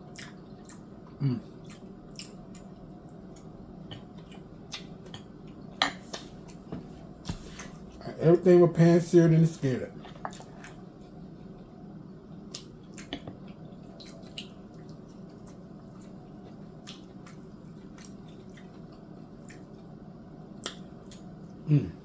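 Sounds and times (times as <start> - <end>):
person chewing food: 0.0 - 8.0, 10.0 - 19.9, 20.5 - 21.9.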